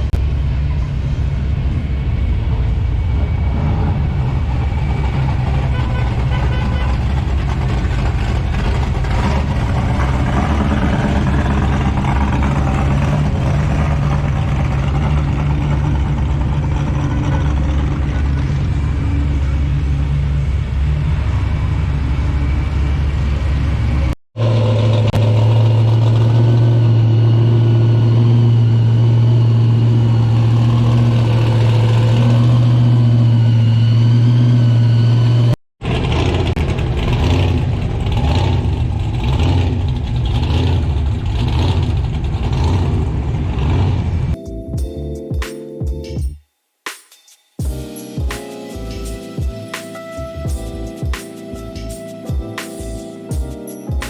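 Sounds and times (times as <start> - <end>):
deep car engine note: 0.0 - 43.7
engine pulsing unevenly: 0.0 - 44.4.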